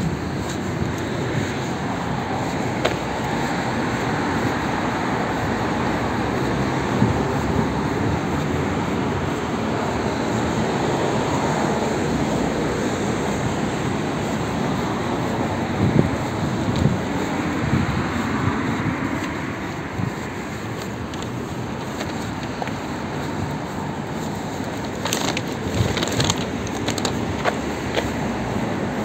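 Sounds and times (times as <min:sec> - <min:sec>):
city traffic roar: 0:00.0 - 0:29.0.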